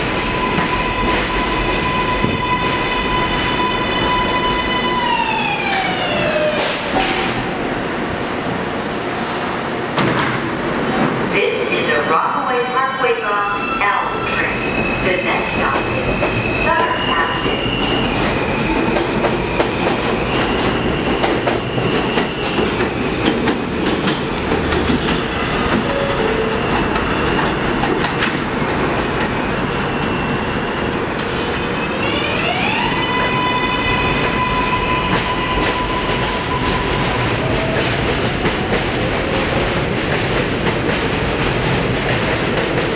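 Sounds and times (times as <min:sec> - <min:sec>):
subway train wheels on rail: 0:00.0 - 0:42.9.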